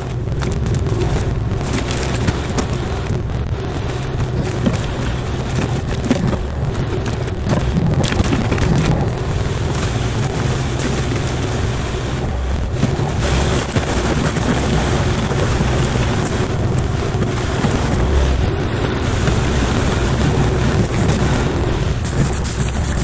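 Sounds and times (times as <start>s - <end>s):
diesel engine hum: 0.0s - 23.0s
mulcher grinding brush: 4.0s - 23.0s.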